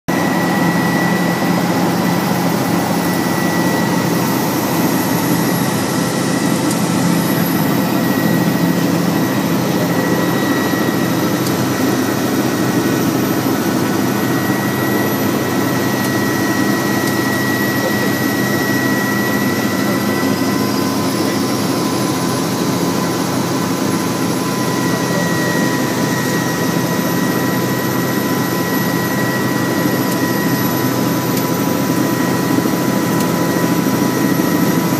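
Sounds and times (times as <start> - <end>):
helicopter engine and rotor drone: 0.1 - 34.9
high-pitched whine: 0.1 - 34.9.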